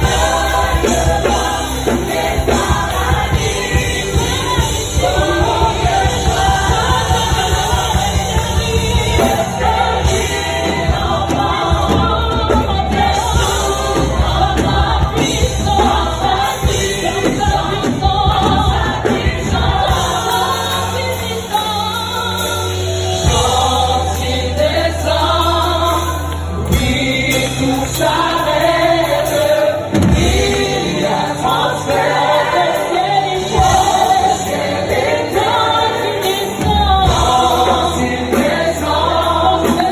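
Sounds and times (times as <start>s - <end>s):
congregation singing: 0.0s - 39.9s
gospel praise band playing: 0.0s - 39.9s.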